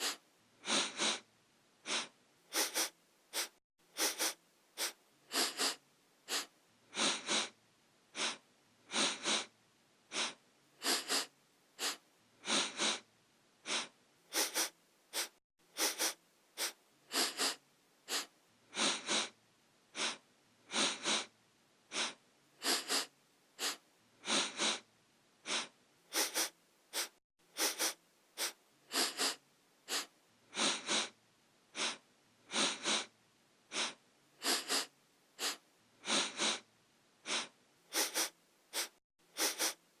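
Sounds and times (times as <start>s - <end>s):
person sniffing: 0.0s - 9.5s, 10.1s - 21.3s, 21.9s - 40.0s.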